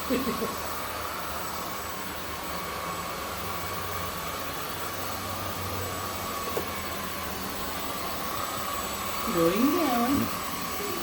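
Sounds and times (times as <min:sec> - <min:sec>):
vacuum cleaner on carpet: 0:00.0 - 0:11.0.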